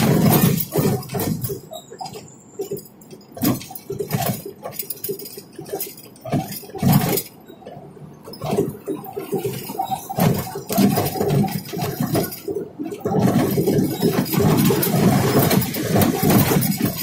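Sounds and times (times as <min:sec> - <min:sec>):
knocks and rattles in car cabin: 0:00.0 - 0:07.4, 0:08.2 - 0:17.0
car jolting over concrete road: 0:00.0 - 0:07.5, 0:08.2 - 0:17.0.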